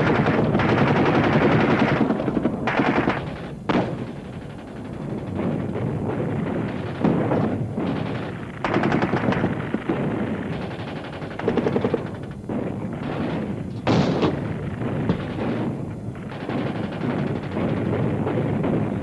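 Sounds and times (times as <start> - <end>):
machine-gun bursts: 0.0 - 5.3, 6.6 - 12.4, 13.0 - 19.0
continuous gunfire din: 0.0 - 19.0.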